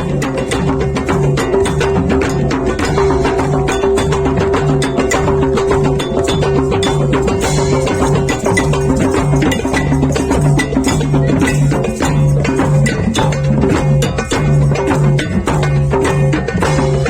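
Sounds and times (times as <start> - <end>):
background music with beat and bass: 0.0 - 17.0.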